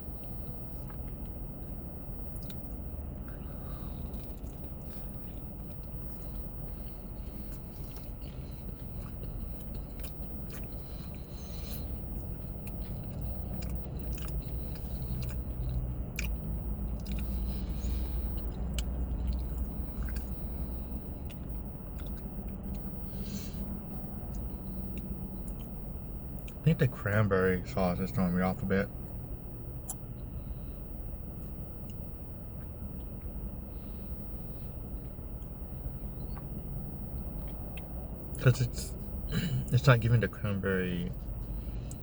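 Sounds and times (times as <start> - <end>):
person chewing with mouth smacks: 0.0 - 26.7, 28.2 - 40.2, 40.8 - 42.0
steady low hum: 0.0 - 42.0.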